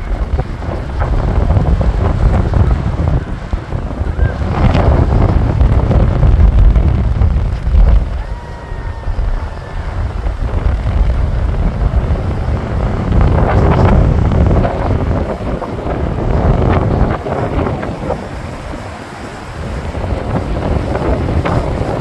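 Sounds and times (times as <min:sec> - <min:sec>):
heavy surf breaking: 0:00.0 - 0:22.0
wind buffeting microphone: 0:00.0 - 0:22.0.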